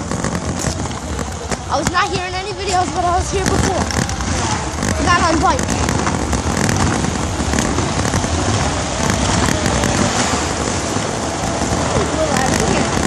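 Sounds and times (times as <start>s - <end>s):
tyres on wet pavement: 0.0s - 13.0s
wind on microphone: 0.0s - 13.0s.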